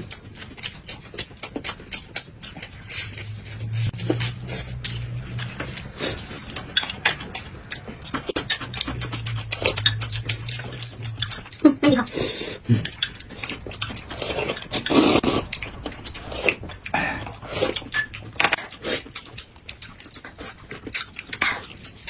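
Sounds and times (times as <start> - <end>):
people chewing and lip-smacking: 0.0 - 22.0.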